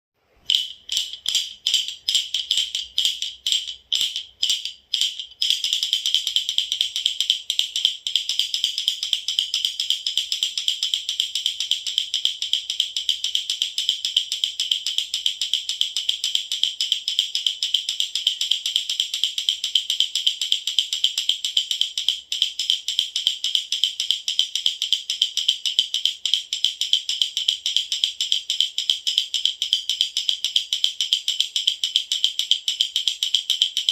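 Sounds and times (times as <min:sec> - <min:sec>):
baby rattle shaking: 0:00.5 - 0:33.9.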